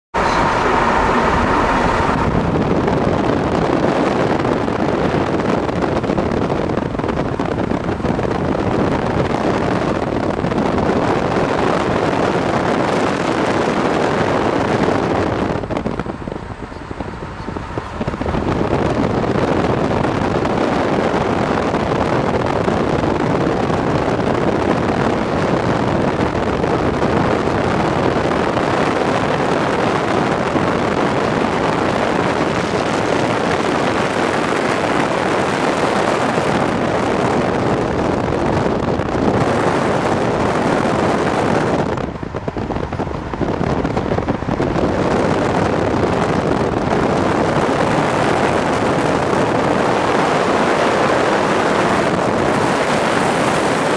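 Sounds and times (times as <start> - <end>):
car road and wind noise: 0.0 - 53.9.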